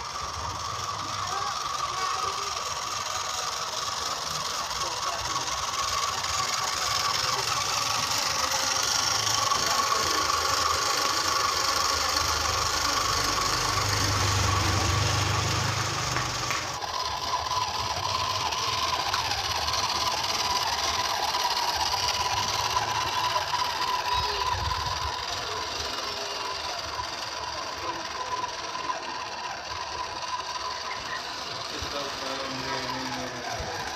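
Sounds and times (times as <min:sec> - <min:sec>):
small electric motor whirring: 0:00.0 - 0:33.9.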